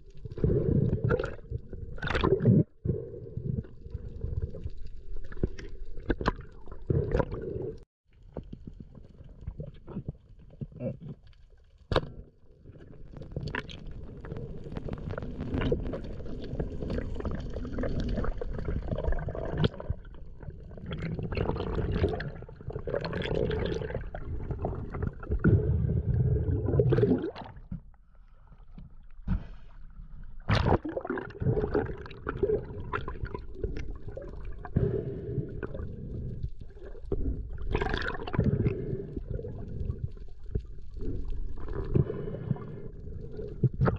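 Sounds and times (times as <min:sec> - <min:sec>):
water sloshing and gurgling: 0:00.0 - 0:43.9.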